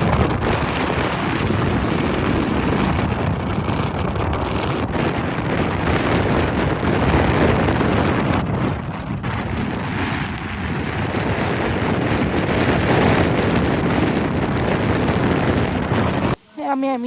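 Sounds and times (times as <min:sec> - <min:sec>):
wind rushing over microphone: 0:00.0 - 0:16.8.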